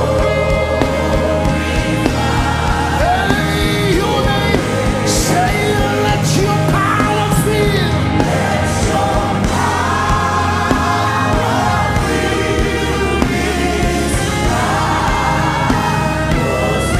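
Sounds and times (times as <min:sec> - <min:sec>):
gospel band playing: 0:00.0 - 0:16.9
voices singing and calling out: 0:00.0 - 0:16.9.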